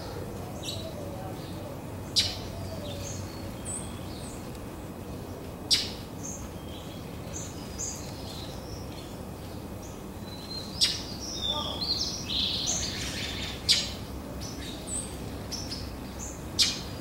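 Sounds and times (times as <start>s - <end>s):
distant traffic rumble: 0.0s - 17.0s
songbirds chirping: 0.0s - 17.0s.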